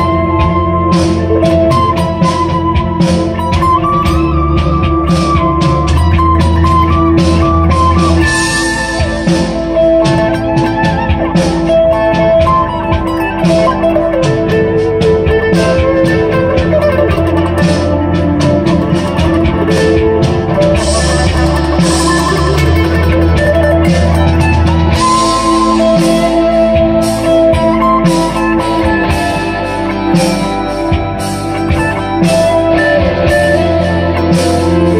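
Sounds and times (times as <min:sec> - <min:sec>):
deep low note: 0:00.0 - 0:34.9
electric guitar lead line: 0:00.0 - 0:34.9
held guitar tone: 0:00.0 - 0:34.9.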